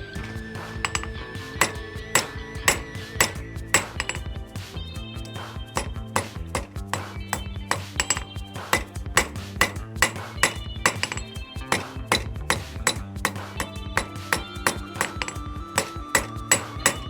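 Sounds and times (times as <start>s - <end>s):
hammer striking metal on anvil: 0.8s - 4.3s, 5.8s - 17.0s.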